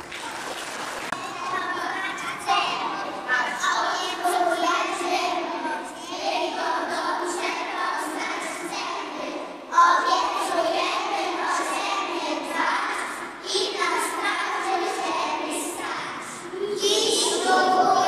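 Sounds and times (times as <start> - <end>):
young children singing: 1.1 - 18.0.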